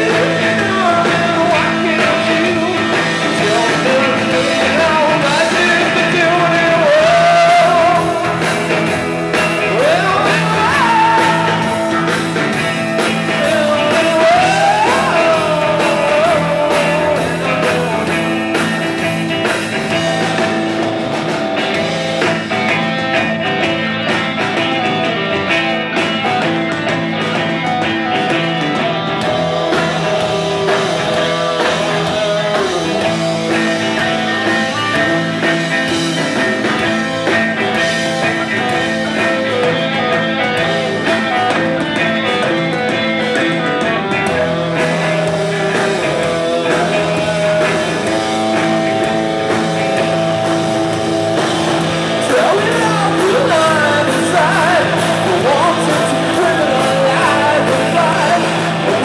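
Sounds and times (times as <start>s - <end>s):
bass guitar: 0.0s - 59.0s
distorted electric guitars: 0.0s - 59.0s
drum kit with cymbals: 0.0s - 59.0s.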